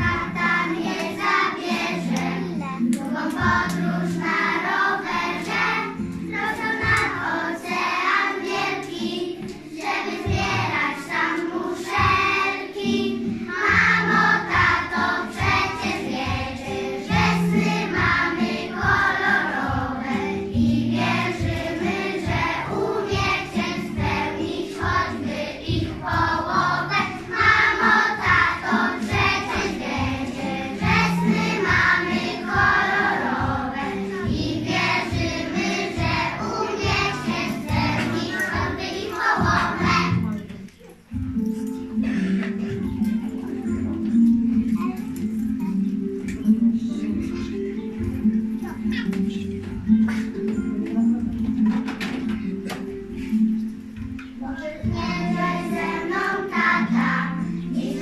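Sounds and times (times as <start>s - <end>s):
children singing: 0.0s - 40.5s, 45.2s - 58.0s
instrumental accompaniment with beat: 0.0s - 58.0s.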